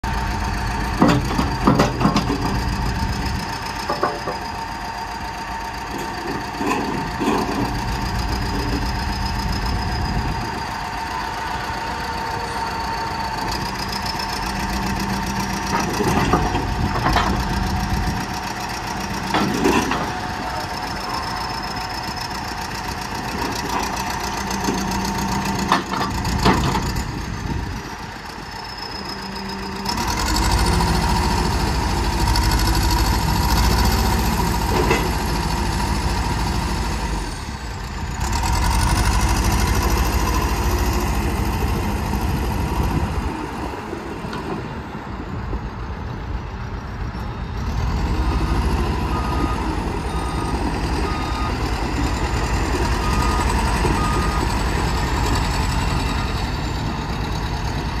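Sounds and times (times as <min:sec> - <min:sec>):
diesel engine revving: 0:00.0 - 0:45.3, 0:45.9 - 0:58.0.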